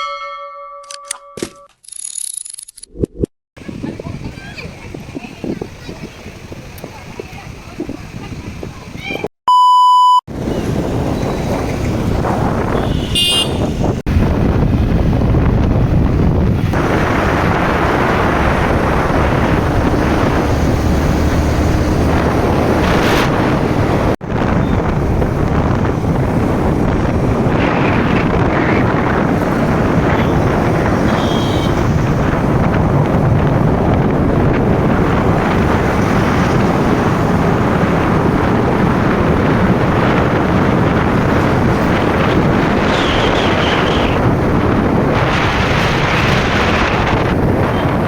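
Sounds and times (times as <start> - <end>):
wind buffeting microphone: 3.6 - 9.3, 10.3 - 48.0.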